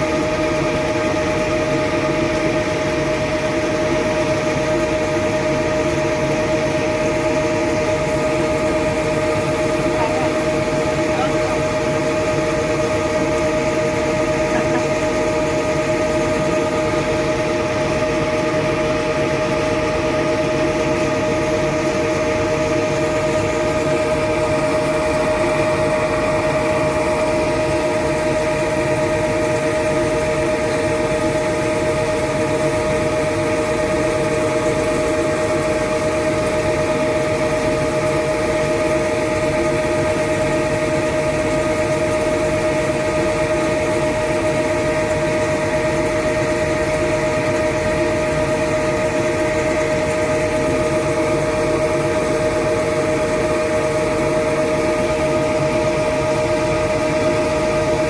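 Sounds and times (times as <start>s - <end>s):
machinery drone with high whine: 0.0s - 58.0s.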